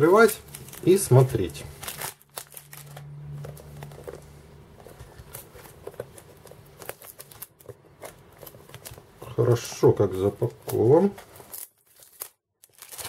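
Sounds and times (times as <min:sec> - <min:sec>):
plastic film rustling and crinkling: 0:00.0 - 0:13.0.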